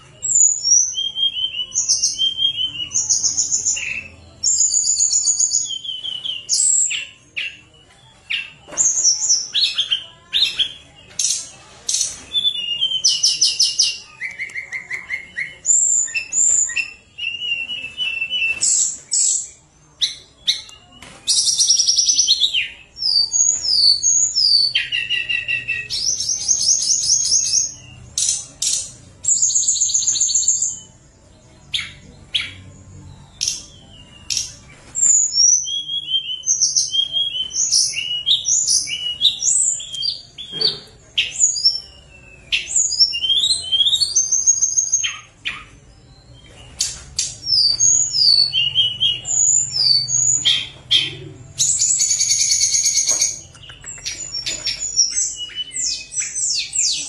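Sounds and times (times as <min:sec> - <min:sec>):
bird singing whistles and trills: 0:00.1 - 0:57.0.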